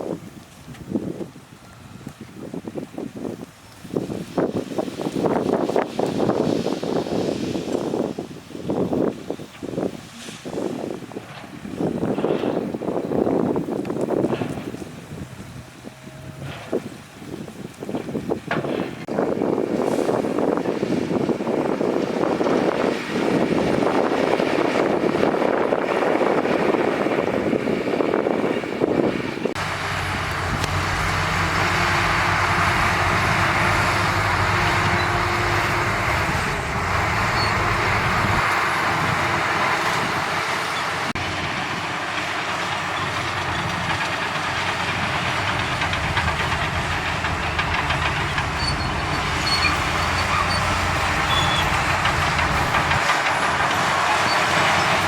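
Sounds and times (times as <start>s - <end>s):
diesel earthmoving machinery running: 10.6s - 55.0s.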